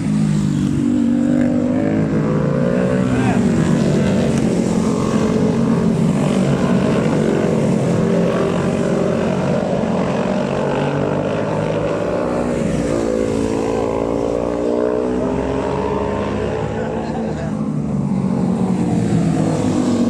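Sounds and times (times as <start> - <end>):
racing motorcycles droning: 0.0 - 20.0.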